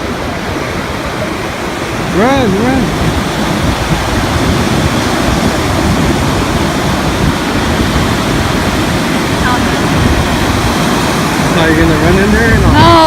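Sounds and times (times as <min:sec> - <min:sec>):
ocean surf: 0:00.0 - 0:13.0
wind: 0:00.0 - 0:13.0.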